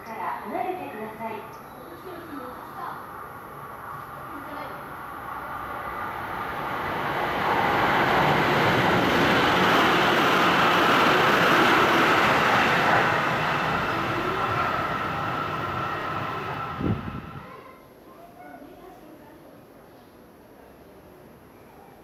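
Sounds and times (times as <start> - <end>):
electric train passing at speed: 0.0 - 17.7.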